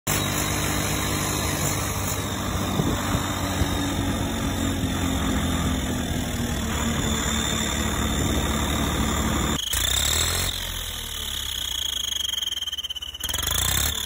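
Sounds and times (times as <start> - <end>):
engine idling: 0.1 - 14.0.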